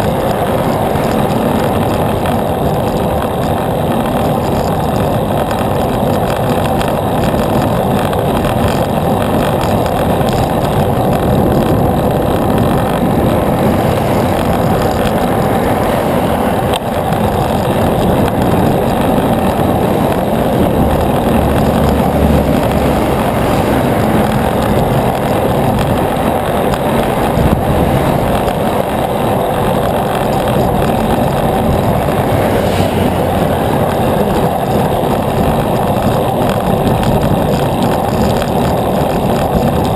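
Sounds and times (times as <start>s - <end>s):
road noise: 0.0s - 39.9s
rushing wind: 0.0s - 39.9s.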